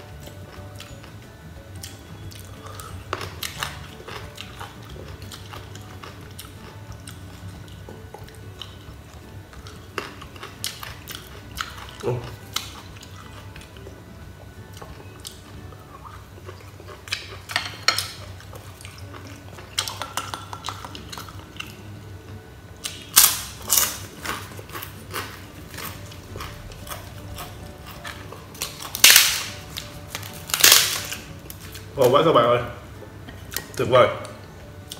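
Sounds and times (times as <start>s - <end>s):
crunchy chewing: 1.8s - 14.0s, 14.7s - 21.8s, 22.8s - 32.0s.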